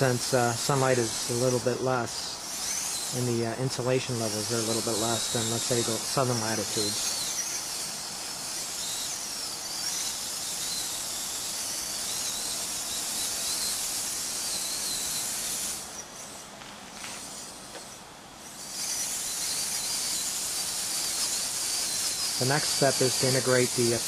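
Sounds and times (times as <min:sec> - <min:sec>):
faint wavering chirps: 0:00.0 - 0:24.0
high-pitched outdoor hiss: 0:00.0 - 0:24.0.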